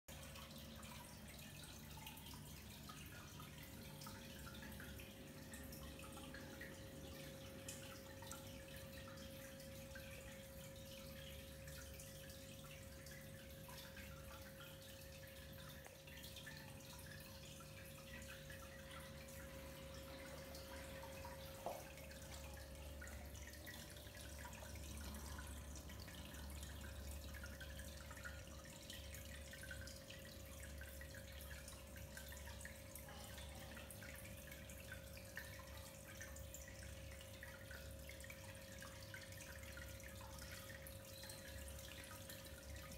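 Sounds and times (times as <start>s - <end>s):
filter water trickling and dripping: 0.1s - 42.9s.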